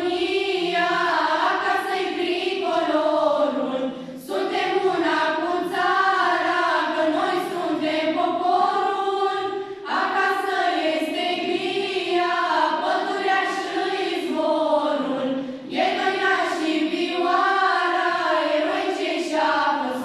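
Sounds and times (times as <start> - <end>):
children's choir singing: 0.0 - 20.0.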